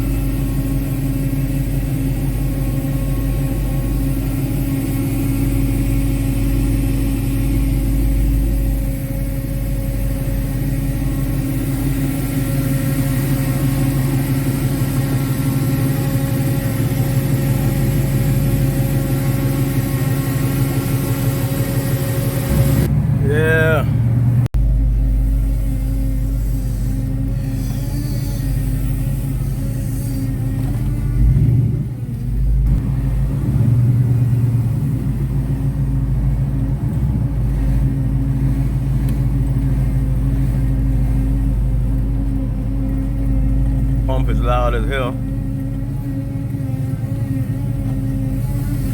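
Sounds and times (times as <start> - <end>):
car engine and exhaust running: 0.0 - 48.9.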